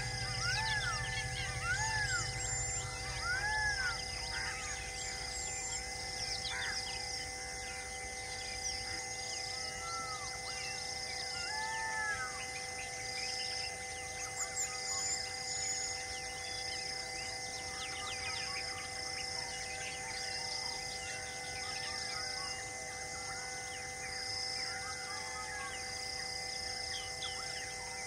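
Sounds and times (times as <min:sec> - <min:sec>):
birds chirping and calling: 0:00.0 - 0:26.0
high insect drone: 0:00.0 - 0:28.0.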